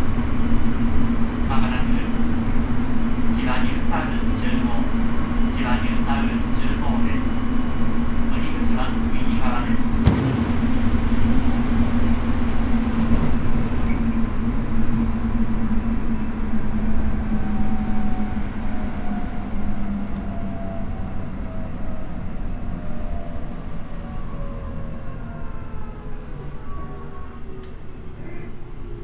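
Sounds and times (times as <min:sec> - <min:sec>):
rail and wheel noise: 0:00.0 - 0:29.0
train low hum: 0:00.0 - 0:29.0.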